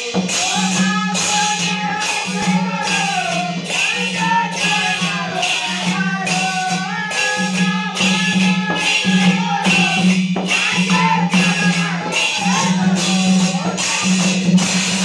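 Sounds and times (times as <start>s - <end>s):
drums beating: 0.0s - 15.0s
jingling percussion: 0.0s - 15.0s
men singing devotional song: 0.0s - 15.0s.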